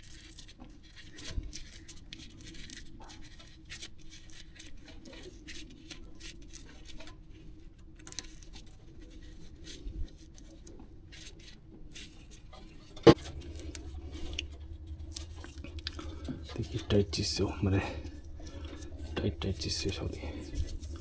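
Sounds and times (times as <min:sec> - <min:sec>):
low steady hum: 0:00.0 - 0:21.0
objects being handled: 0:00.0 - 0:21.0.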